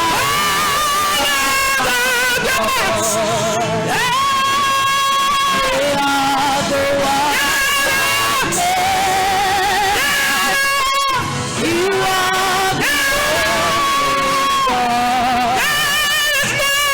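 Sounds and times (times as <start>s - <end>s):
person singing with vibrato: 0.0s - 16.9s.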